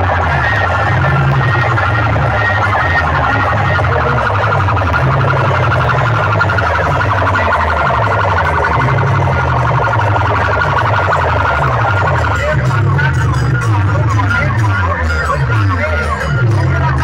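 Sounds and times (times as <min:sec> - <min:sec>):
deep gliding bass line: 0:00.0 - 0:17.0
distorted sound system music: 0:00.0 - 0:17.0
warbling siren-like tone: 0:00.0 - 0:17.0.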